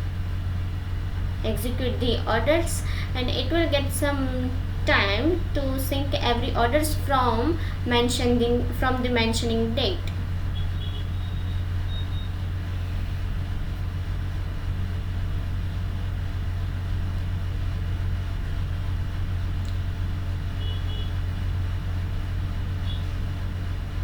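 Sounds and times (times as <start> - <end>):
low background hum and rumble: 0.0 - 24.0.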